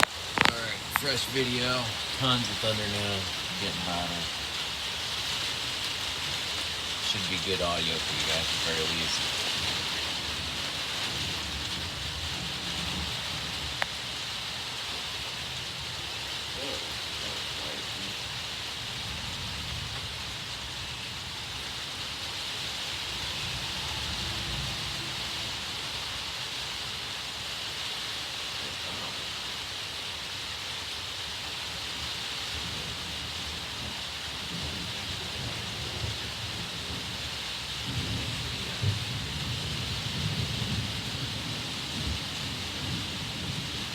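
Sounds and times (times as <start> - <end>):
steady high hiss: 0.0 - 43.9
distant thunder rumbling: 0.1 - 27.8, 32.0 - 43.9.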